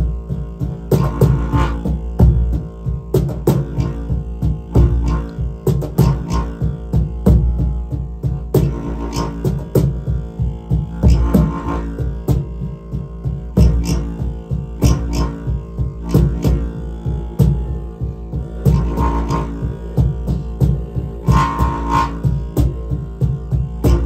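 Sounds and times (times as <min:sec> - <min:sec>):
bamboo wind instrument drone: 0:00.0 - 0:24.0.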